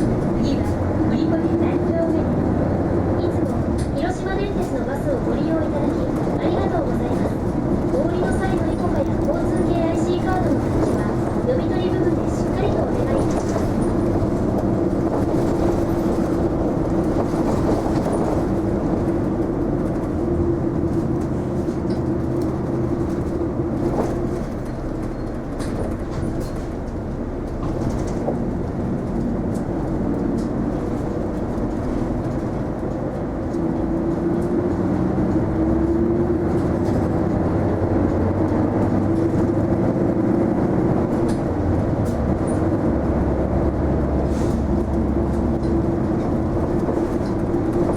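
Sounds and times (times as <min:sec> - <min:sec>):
bus engine whine: 0:00.0 - 0:47.9
low road rumble: 0:00.0 - 0:47.9.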